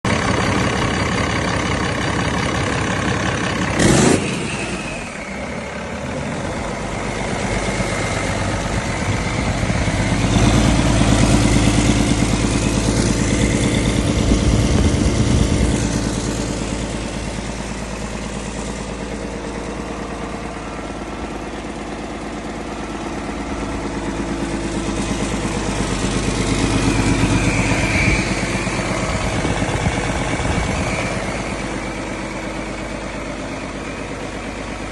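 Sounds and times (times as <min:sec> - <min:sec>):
diesel engine revving: 0:00.1 - 0:34.9.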